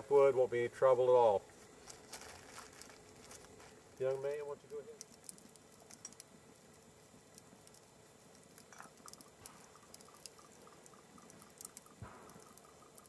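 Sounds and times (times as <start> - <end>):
campfire crackling and ticking: 0.2 - 13.0.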